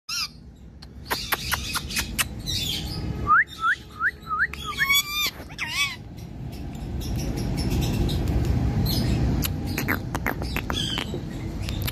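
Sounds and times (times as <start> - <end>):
parakeet calling: 0.1 - 11.9.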